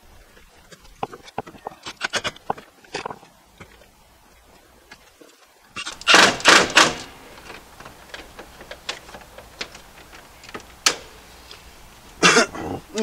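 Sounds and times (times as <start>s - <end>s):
scraping and rustling: 0.0s - 12.2s.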